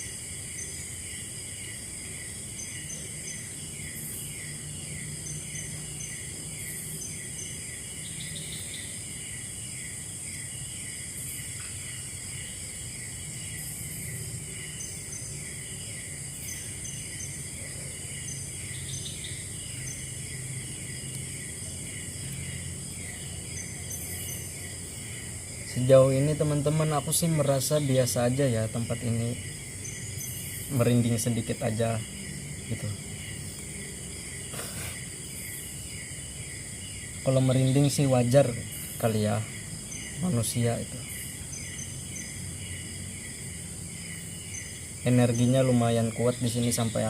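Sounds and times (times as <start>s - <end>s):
high-pitched insect buzz: 0.0s - 47.0s
insect chirps: 0.0s - 47.0s.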